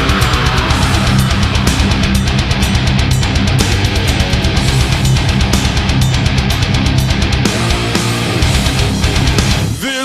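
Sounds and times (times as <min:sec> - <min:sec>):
heavy metal music: 0:00.0 - 0:10.0.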